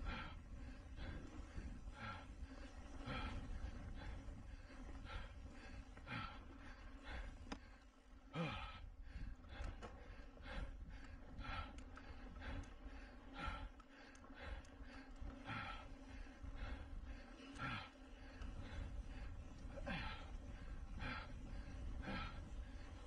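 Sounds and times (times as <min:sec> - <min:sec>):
person breathing hard: 0:00.0 - 0:23.0
wind and riding rumble: 0:00.0 - 0:23.0.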